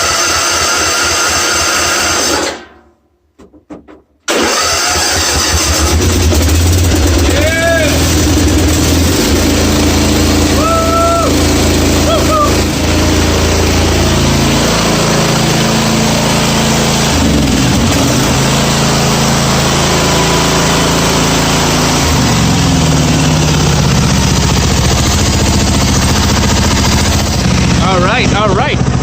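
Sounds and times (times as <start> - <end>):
mower engine running: 0.0 - 2.6, 4.3 - 29.0.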